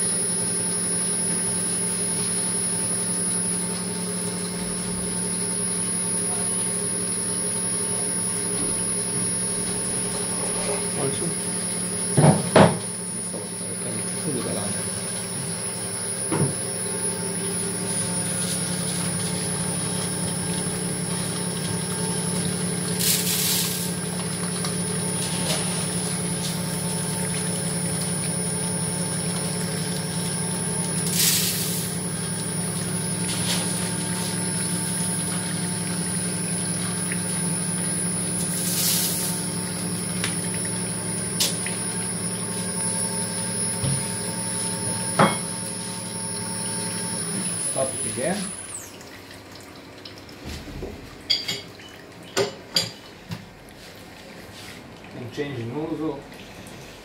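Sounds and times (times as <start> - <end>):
oil press motor humming: 0.0 - 51.2.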